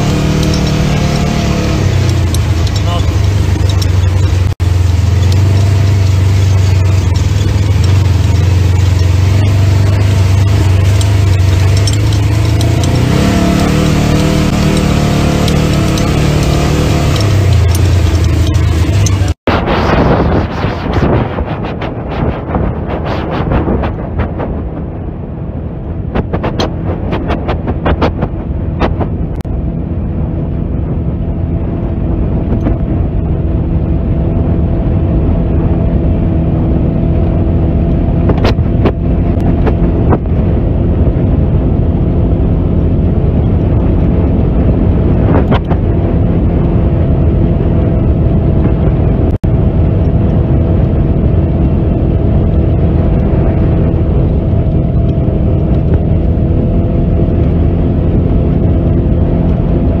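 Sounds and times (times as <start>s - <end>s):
dirt road noise: 0.0s - 60.0s
vehicle engine running: 0.0s - 60.0s.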